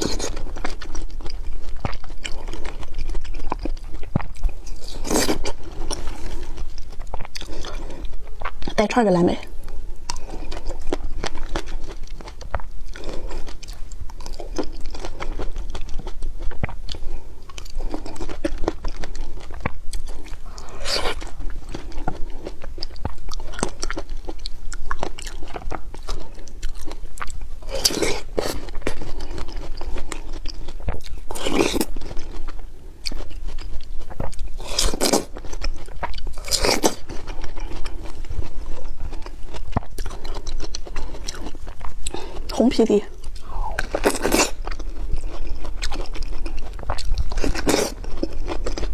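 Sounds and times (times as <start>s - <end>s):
chewing blueberries: 0.0s - 48.9s.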